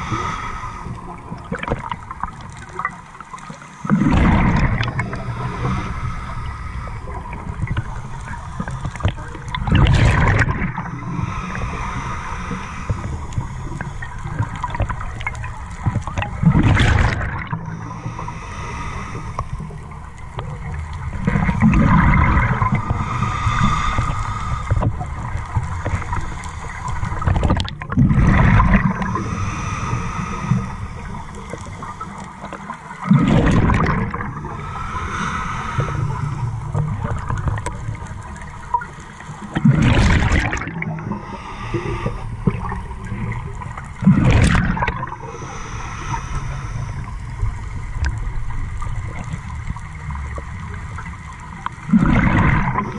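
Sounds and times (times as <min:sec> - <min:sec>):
regulator inhale hiss: 0:00.0 - 0:09.6, 0:10.6 - 0:15.4, 0:17.4 - 0:27.5, 0:28.3 - 0:39.6, 0:40.7 - 0:48.5
gurgling exhaled bubbles underwater: 0:00.0 - 0:52.9.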